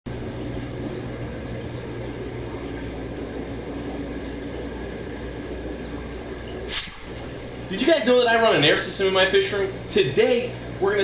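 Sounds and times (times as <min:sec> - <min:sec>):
water bubbling and churning: 0:00.1 - 0:09.1
low steady hum: 0:00.1 - 0:11.0.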